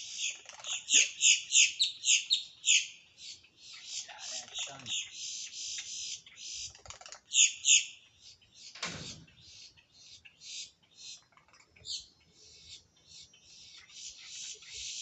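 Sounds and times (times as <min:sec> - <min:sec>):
grackles chirping: 0:00.0 - 0:15.0.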